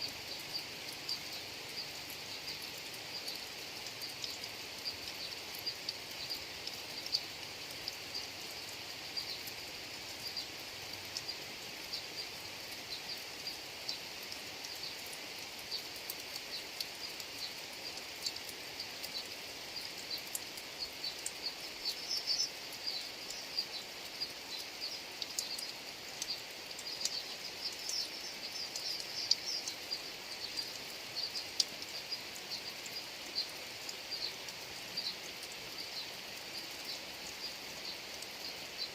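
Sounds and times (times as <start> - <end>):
raindrop ticks: 0.0 - 38.9
steady rain falling: 0.0 - 38.9.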